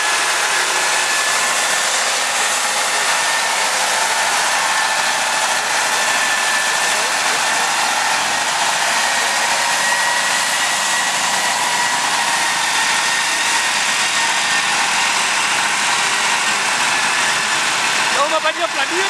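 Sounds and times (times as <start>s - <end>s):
wheel loader engine running: 0.0s - 19.0s.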